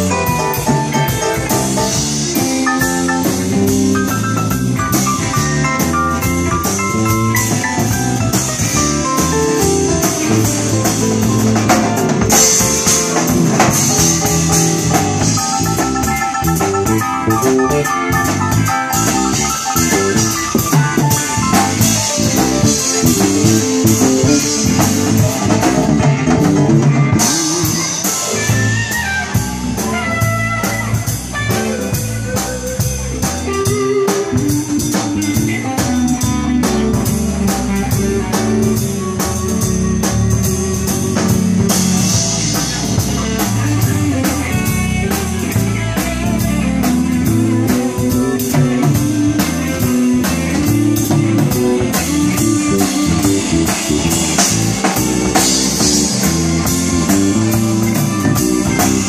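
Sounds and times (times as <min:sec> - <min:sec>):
drum kit with cymbal beat: 0:00.0 - 0:59.0
electric bass: 0:00.0 - 0:59.0
electric keyboard: 0:00.0 - 0:59.0.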